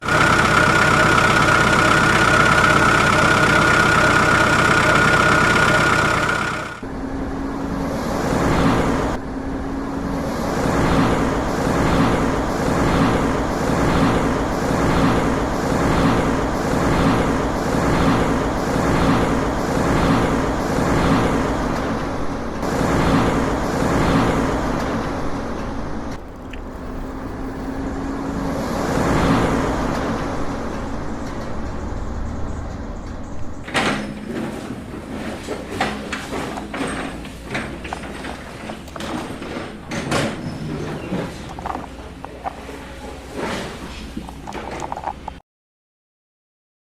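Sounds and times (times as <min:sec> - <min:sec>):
heavy truck engine pulsing: 0:00.0 - 0:45.4.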